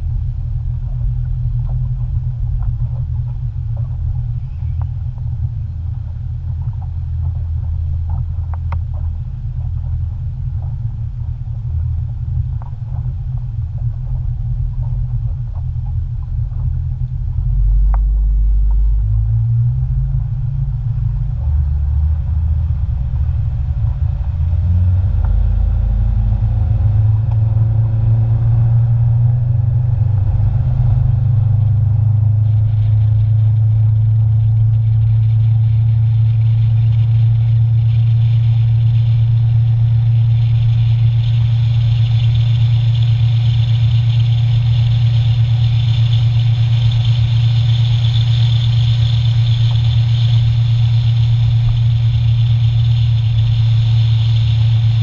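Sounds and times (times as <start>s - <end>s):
motorboat engine running: 0.0s - 55.0s
wind and water rumble: 0.0s - 55.0s.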